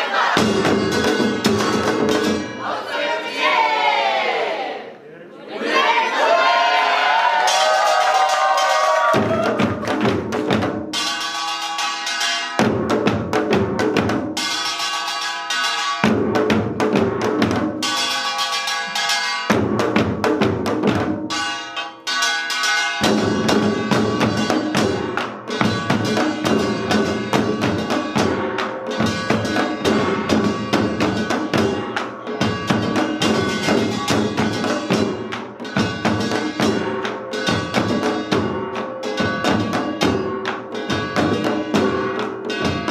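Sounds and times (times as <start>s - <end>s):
hourglass and barrel drums: 0.0s - 3.1s, 7.3s - 42.9s.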